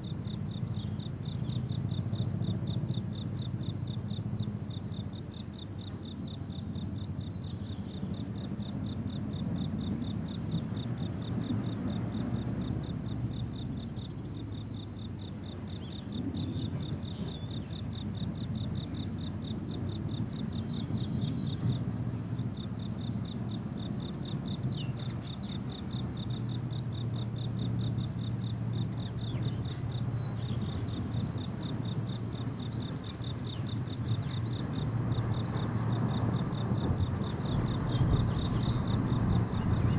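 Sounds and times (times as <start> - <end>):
crickets chirping: 0.0 - 39.9
low background rumble: 0.0 - 39.9.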